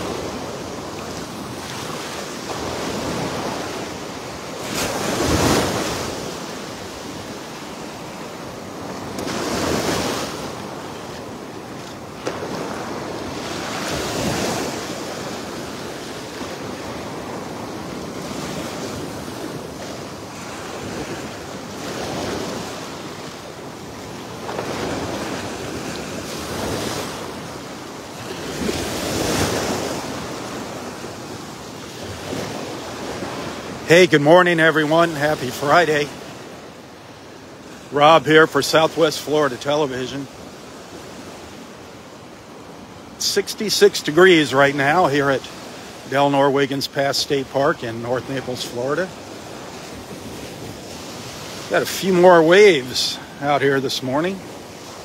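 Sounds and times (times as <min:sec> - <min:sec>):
waves breaking on sand: 0:00.0 - 0:55.0.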